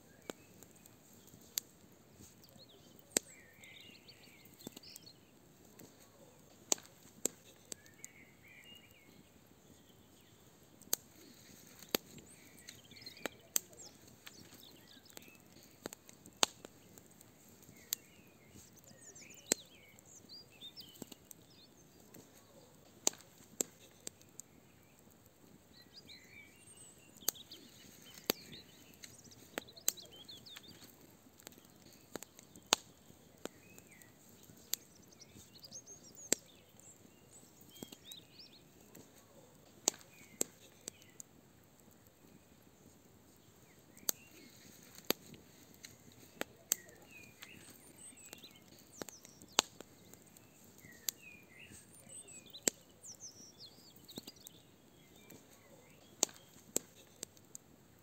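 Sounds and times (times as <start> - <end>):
birds chirping: 0.0 - 58.0
fire crackling and popping: 0.0 - 58.0.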